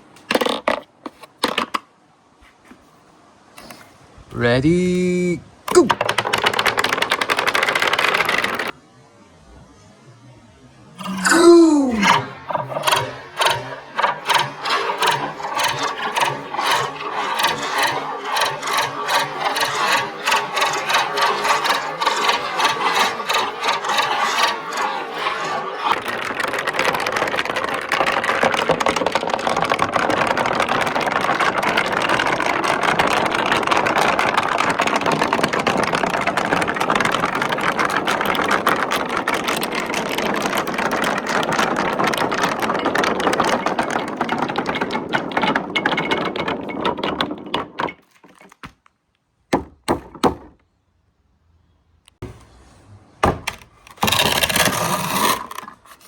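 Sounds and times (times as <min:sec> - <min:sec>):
marbles rolling and clattering: 0:00.0 - 0:01.8, 0:04.4 - 0:08.8, 0:11.0 - 0:48.9, 0:53.2 - 0:56.0.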